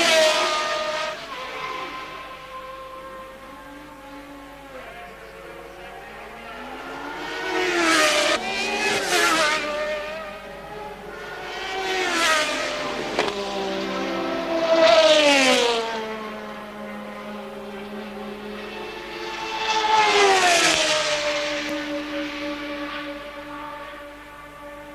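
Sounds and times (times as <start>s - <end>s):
racing cars passing by: 0.0s - 24.9s.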